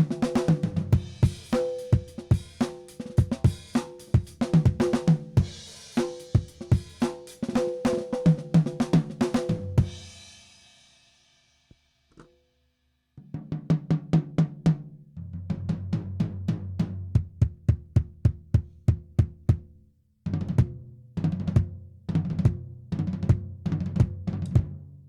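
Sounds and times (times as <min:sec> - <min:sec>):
drum fills on toms: 0:00.0 - 0:10.2, 0:13.2 - 0:19.7, 0:20.3 - 0:24.8.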